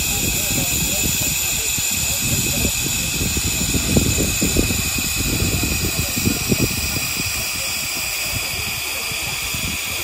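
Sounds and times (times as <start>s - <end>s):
steam hissing: 0.0s - 10.0s.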